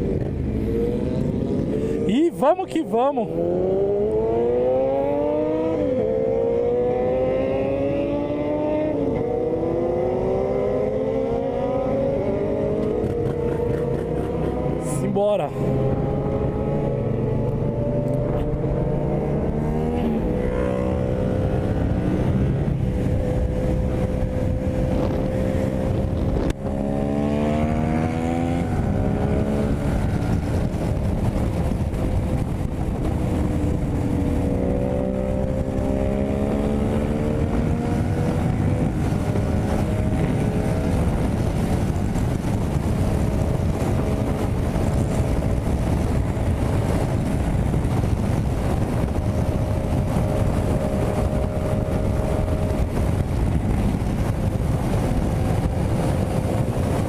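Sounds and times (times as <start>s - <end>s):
motorcycle engine accelerating: 0.0s - 2.5s, 3.1s - 57.0s
wind rush: 0.0s - 57.0s.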